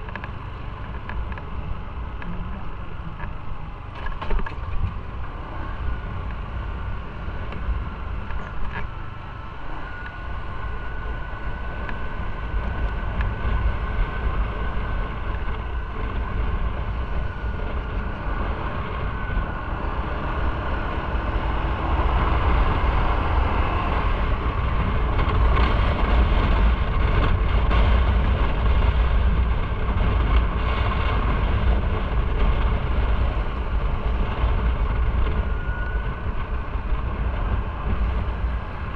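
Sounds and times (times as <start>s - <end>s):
motorcycle engine: 0.0s - 38.9s
wind on microphone: 0.0s - 38.9s.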